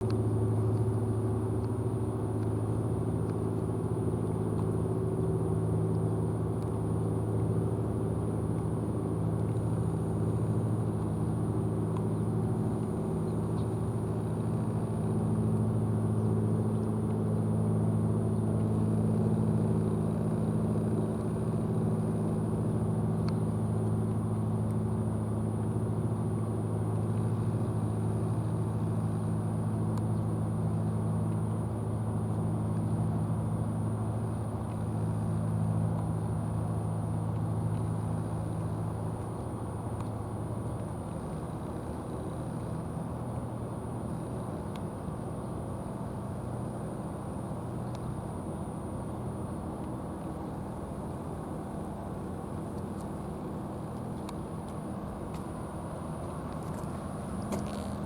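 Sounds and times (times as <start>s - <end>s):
low motor hum: 0.0s - 58.0s.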